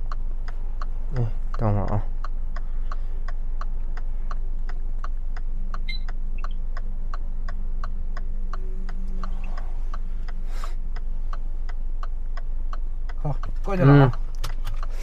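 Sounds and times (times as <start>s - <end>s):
car engine idling: 0.0s - 15.0s
turn signal clicking: 0.0s - 15.0s.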